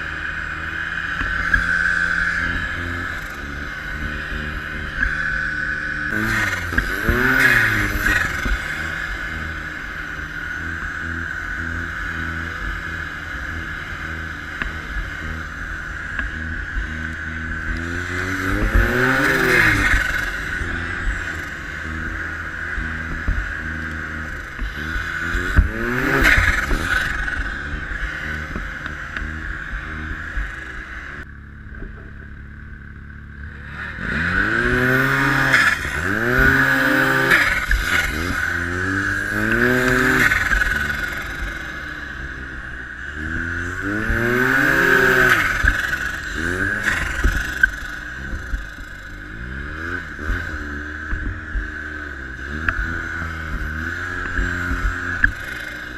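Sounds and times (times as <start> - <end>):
snowmobile engine revving: 0.0 - 55.9.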